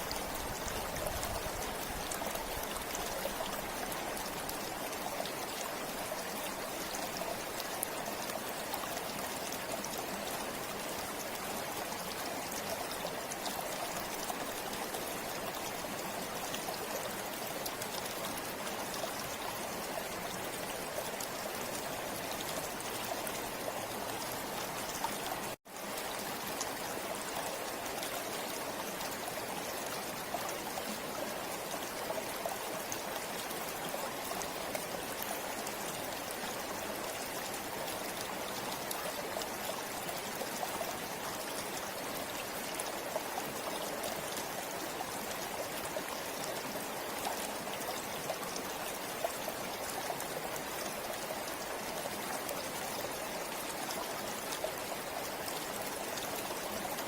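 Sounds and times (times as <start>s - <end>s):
small water splashes and trickles: 0.0s - 57.0s.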